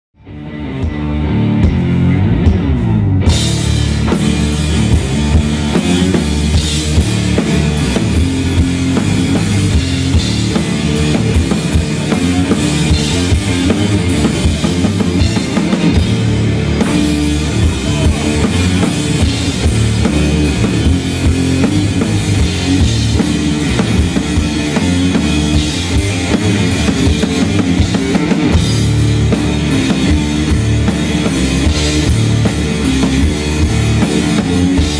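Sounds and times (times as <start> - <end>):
rock band playing: 0.2 - 34.9
pounding drum kit: 0.7 - 34.9.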